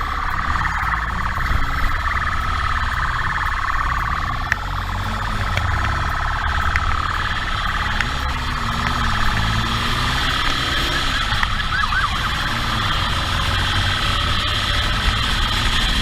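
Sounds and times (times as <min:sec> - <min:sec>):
motorcycle engine rumble: 0:00.0 - 0:16.0
police motorcycle siren: 0:00.0 - 0:16.0
wind: 0:00.0 - 0:16.0.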